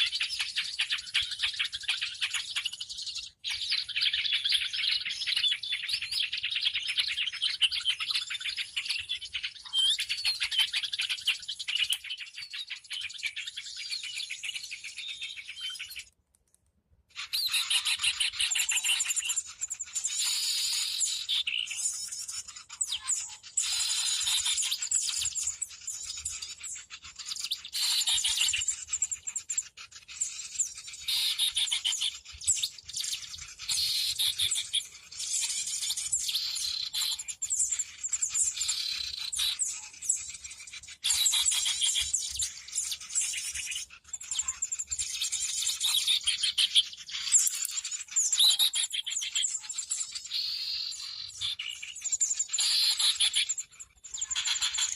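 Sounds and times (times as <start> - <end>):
flock of small birds chirping: 0.0 - 54.9.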